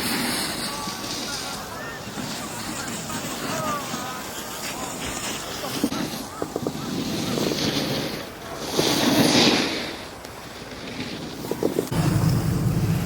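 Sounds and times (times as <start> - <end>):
skis carving on packed snow: 0.0 - 13.0
wind rushing over microphone: 0.0 - 13.0.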